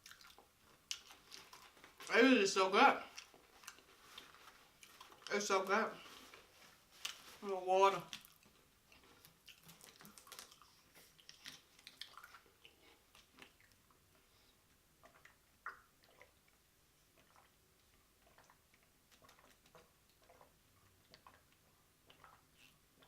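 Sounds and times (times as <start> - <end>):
chewing mouth sounds: 0.0 - 2.1, 3.0 - 5.3, 8.1 - 23.0.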